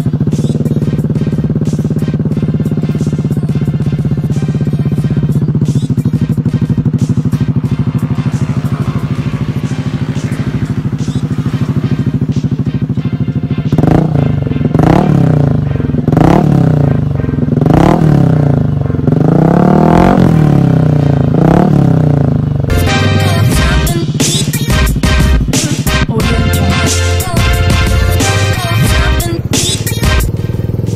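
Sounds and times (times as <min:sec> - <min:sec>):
scooter engine idling and revving: 0:00.0 - 0:30.9.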